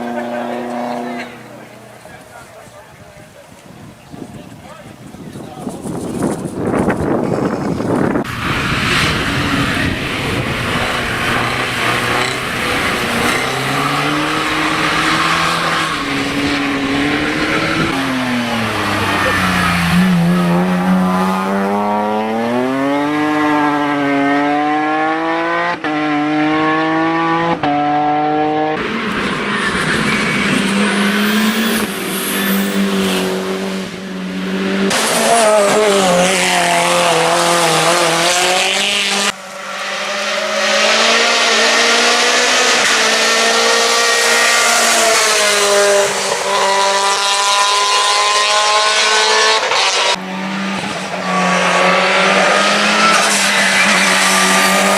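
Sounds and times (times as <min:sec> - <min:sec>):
car passing at full throttle: 0:00.0 - 0:03.4, 0:05.6 - 0:54.9
race car engines revving: 0:00.0 - 0:54.9.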